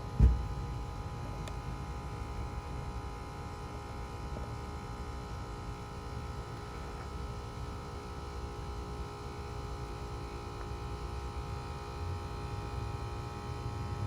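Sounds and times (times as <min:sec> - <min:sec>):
air conditioner unit humming: 0:00.0 - 0:14.0.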